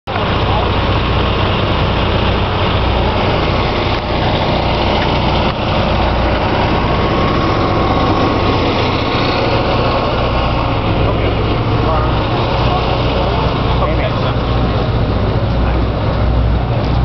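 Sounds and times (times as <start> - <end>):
engine droning steadily: 0.1 - 17.0.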